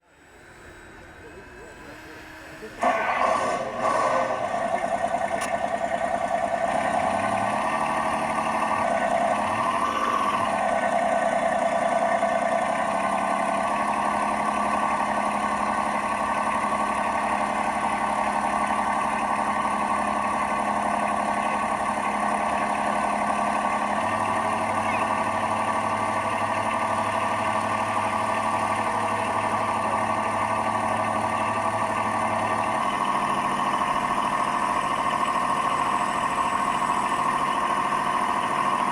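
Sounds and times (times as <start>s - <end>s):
deeper engine tone: 0.0s - 38.9s
simulated diesel engine sound: 0.0s - 38.9s.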